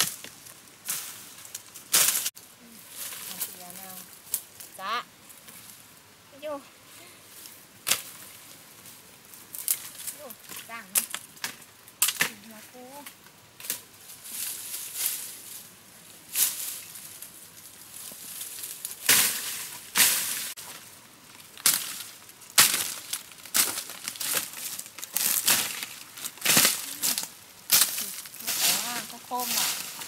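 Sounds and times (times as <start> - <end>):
rustling and crackling: 0.0 - 30.0.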